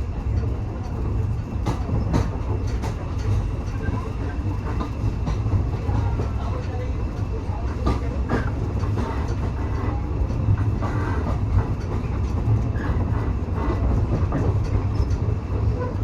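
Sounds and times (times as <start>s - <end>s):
train carriage rumble: 0.0s - 16.0s.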